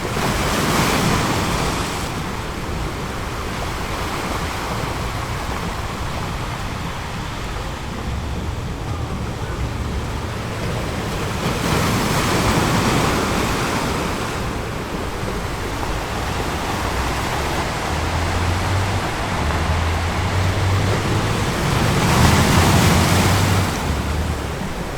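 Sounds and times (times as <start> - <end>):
big waves crashing: 0.0 - 24.9
surf washing on a beach: 0.0 - 24.9.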